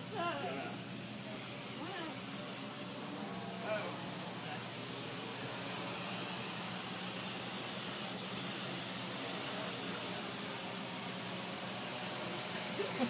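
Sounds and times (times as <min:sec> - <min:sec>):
quadcopter rotors whining: 0:00.0 - 0:13.0.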